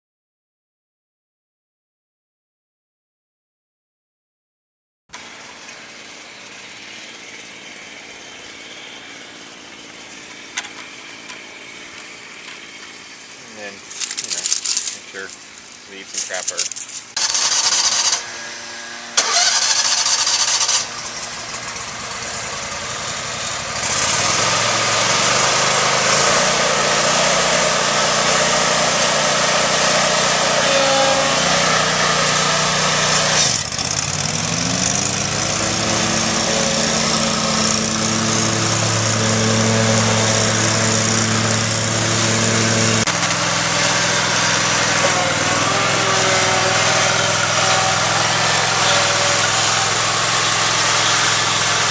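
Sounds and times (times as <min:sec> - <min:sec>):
mower engine running: 0:05.2 - 0:51.9.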